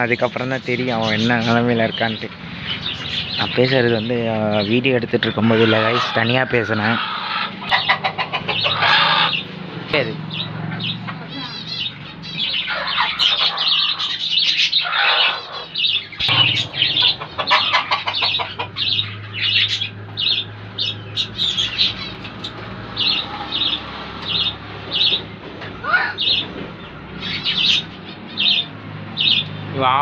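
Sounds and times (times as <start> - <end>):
lovebirds chirping shrilly: 0.0 - 30.0.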